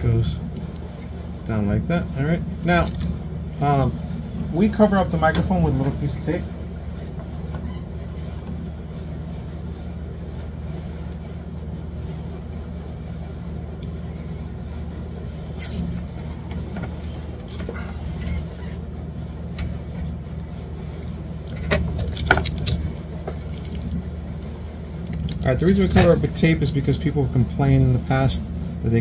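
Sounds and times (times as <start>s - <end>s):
low hum of machinery: 0.0s - 29.0s.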